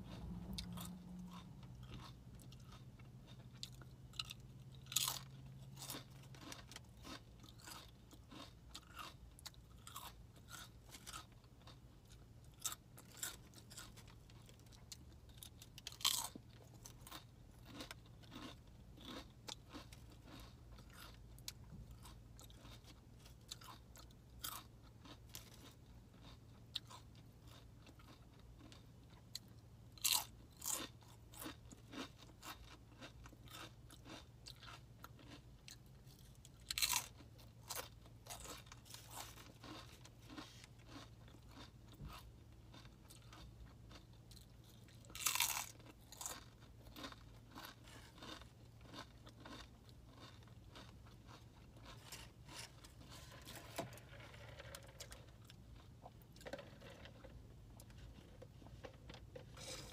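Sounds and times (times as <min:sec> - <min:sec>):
crunchy chewing: 0:00.0 - 0:59.9
chips crunching: 0:00.6 - 0:14.8, 0:15.4 - 0:28.8, 0:30.0 - 0:59.9.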